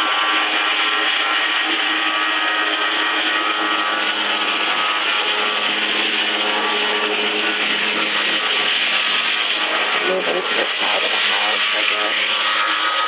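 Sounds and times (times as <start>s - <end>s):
small engine buzzing: 0.0s - 13.0s.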